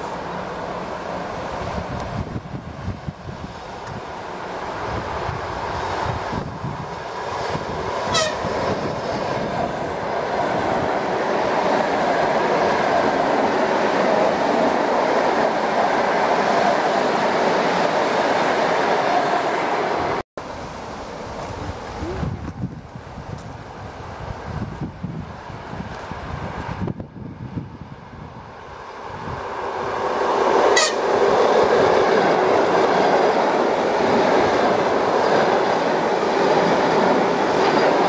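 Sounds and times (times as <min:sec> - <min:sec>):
train wheels on rails: 0:00.0 - 0:38.0.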